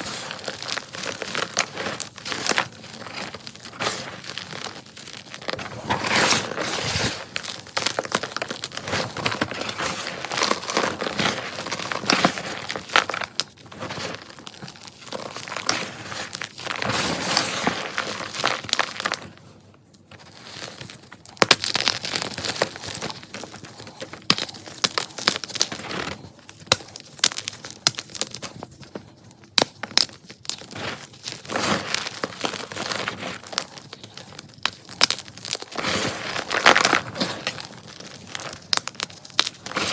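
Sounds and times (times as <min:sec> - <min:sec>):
chalk crunching and crumbling: 0:00.0 - 0:19.4, 0:20.0 - 0:39.9.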